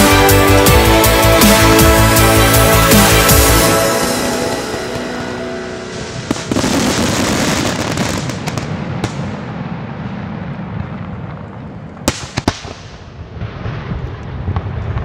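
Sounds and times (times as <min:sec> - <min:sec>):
fireworks crackling: 0:00.0 - 0:15.0
fireworks bangs: 0:01.4 - 0:15.0.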